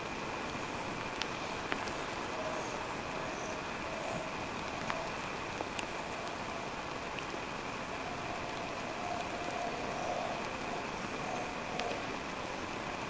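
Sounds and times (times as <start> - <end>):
outdoor background hiss: 0.0 - 13.0
faint ticks: 0.9 - 2.7, 3.4 - 7.4, 8.0 - 13.0.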